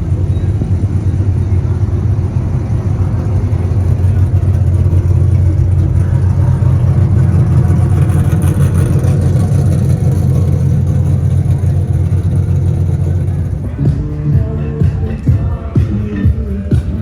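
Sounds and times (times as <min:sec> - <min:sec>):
truck engine running at high revs: 0:00.0 - 0:17.0.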